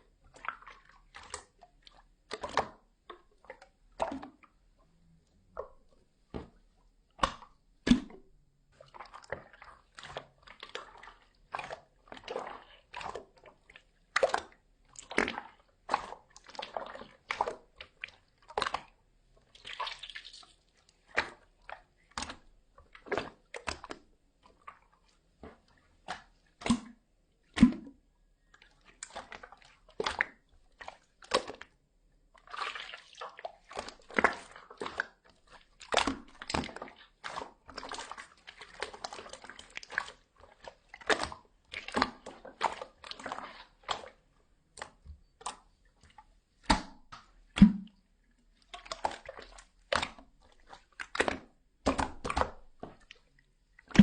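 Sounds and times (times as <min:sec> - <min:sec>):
slime squelching by hand: 0:00.2 - 0:31.8, 0:32.4 - 0:54.0.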